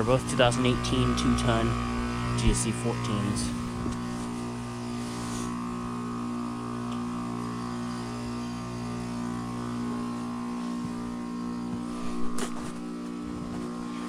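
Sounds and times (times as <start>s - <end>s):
heat pump compressor hum: 0.0s - 14.0s.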